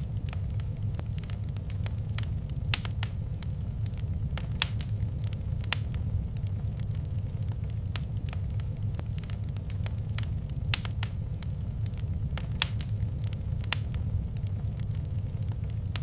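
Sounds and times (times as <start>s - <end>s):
fire crackling with low roar: 0.0s - 16.0s
sharp pops of fire: 0.0s - 16.0s.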